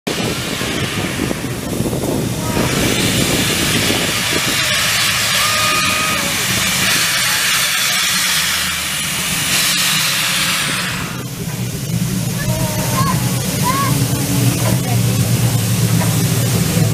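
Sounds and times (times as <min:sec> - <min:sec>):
loud steam hiss: 0:00.1 - 0:16.9.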